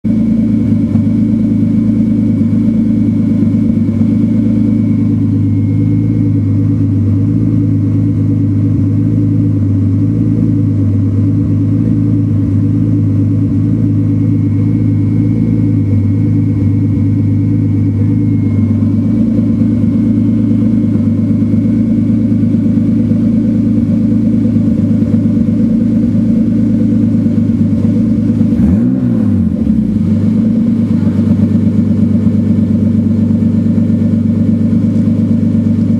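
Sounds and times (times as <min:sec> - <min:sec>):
car engine idling with misfire: 0:00.1 - 0:35.9.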